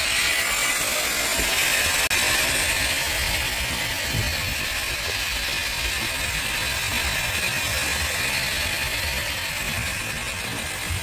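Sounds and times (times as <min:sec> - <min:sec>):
toy car motor whirring: 0:00.0 - 0:11.0.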